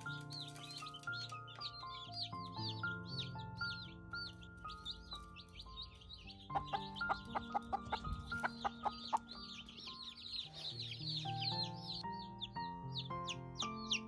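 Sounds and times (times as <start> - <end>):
background music: 0.0 - 14.0
chicks peeping: 0.0 - 14.0.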